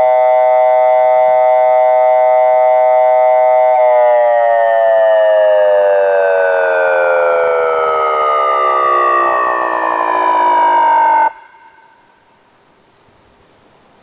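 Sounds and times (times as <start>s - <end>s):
electronic warning siren: 0.0s - 12.2s.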